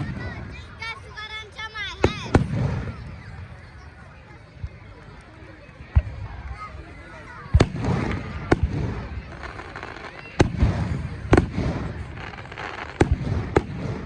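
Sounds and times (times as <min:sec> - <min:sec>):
fireworks bangs: 0:00.0 - 0:03.5, 0:05.9 - 0:14.0
fireworks crackling: 0:00.0 - 0:14.0.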